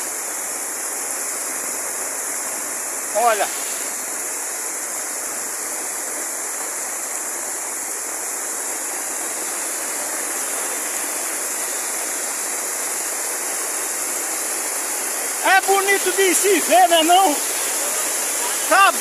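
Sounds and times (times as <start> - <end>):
rainwater rushing: 0.0 - 19.0.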